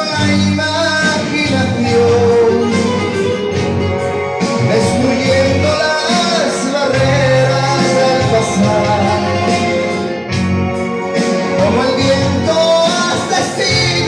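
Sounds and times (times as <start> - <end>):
man singing into microphone: 0.0 - 3.6, 4.3 - 10.1, 11.2 - 14.0
instrumental accompaniment with bass: 0.0 - 14.0.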